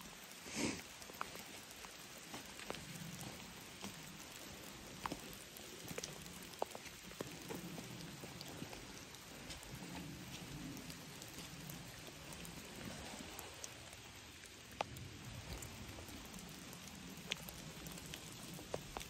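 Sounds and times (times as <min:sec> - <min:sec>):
rain hissing: 0:00.0 - 0:19.0
raindrops striking leaves: 0:00.0 - 0:19.0.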